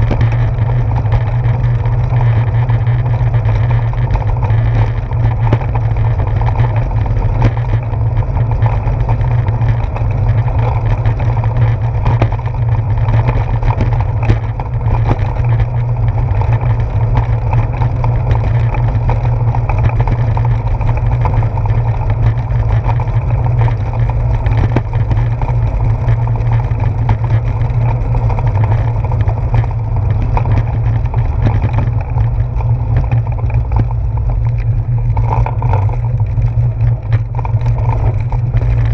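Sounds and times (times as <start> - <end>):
bicycle rolling on wet pavement: 0.0 - 38.9
small ticks and rattles: 0.0 - 38.9
wind rumble: 0.0 - 38.9.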